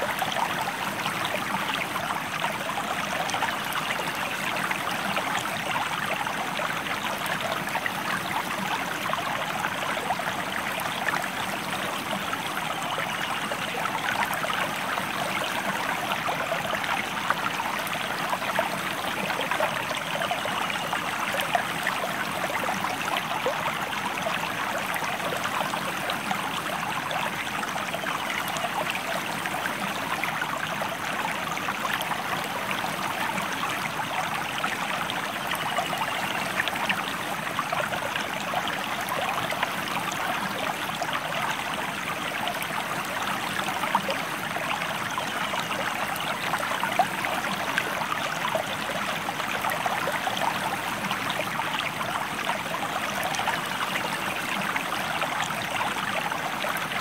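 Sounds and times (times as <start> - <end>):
stream flowing with splashes: 0.0 - 57.0.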